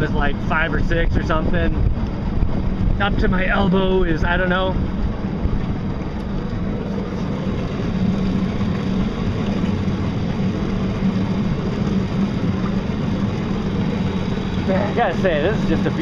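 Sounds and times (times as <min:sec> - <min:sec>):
electric boat motor humming: 0:00.0 - 0:16.0
water rushing along hull: 0:00.0 - 0:16.0
wind on microphone: 0:00.0 - 0:16.0.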